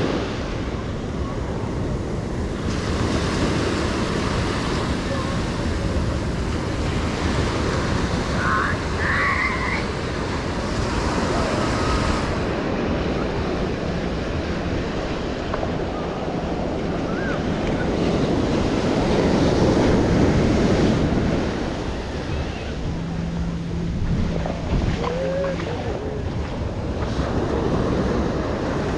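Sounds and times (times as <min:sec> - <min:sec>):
ocean surf on a beach: 0:00.0 - 0:28.9
wind buffeting the microphone: 0:00.0 - 0:28.9.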